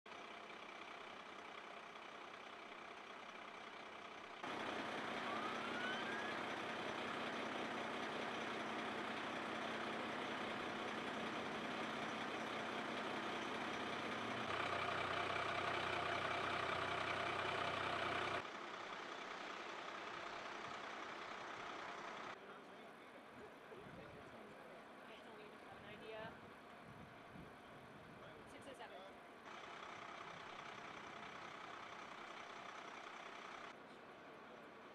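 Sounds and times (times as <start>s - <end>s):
steady engine hum: 0.1s - 34.9s
vehicle engine and road noise: 0.1s - 34.9s.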